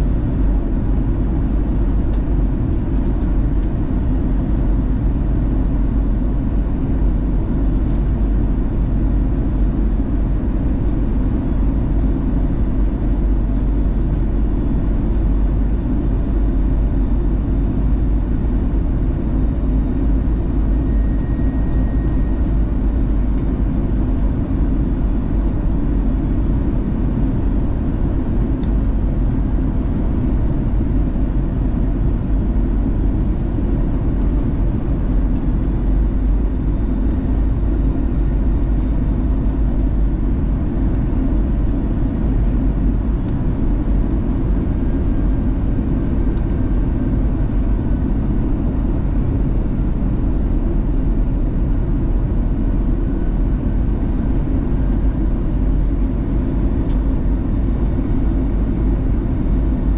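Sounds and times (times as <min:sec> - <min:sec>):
airplane cabin engine rush: 0:00.0 - 0:59.9.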